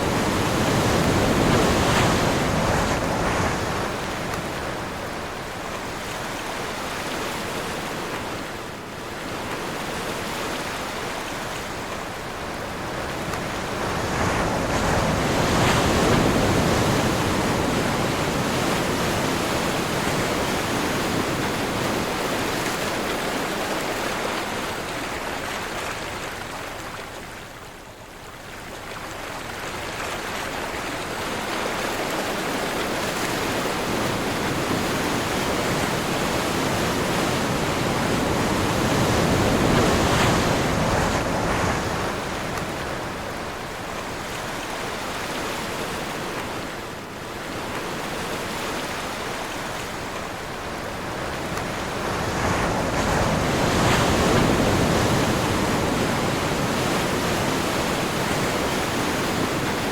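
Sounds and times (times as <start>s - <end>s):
sea waves rushing: 0.0s - 27.3s, 28.7s - 59.9s
wind: 0.0s - 59.9s.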